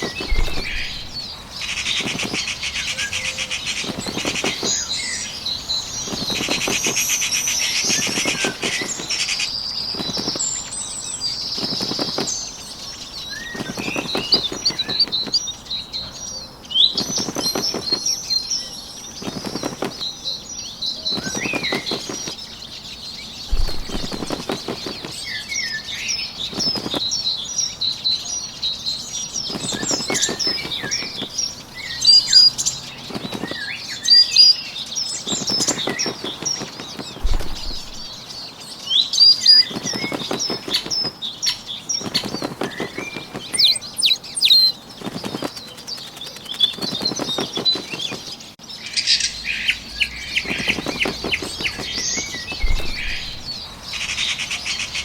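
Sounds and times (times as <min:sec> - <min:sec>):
bird wings fluttering: 0:00.0 - 0:15.8, 0:16.8 - 0:27.2, 0:29.2 - 0:38.4, 0:39.1 - 0:48.6, 0:49.7 - 0:54.4
small birds chirping: 0:00.0 - 0:55.0.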